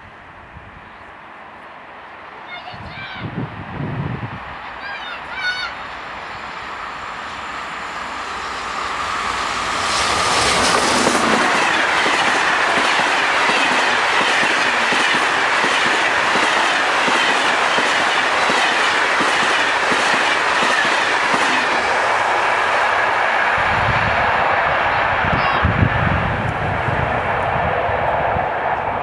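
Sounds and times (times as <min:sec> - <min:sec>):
passenger train passing at speed: 0:00.0 - 0:29.0
wheels rushing on rail: 0:03.3 - 0:29.0.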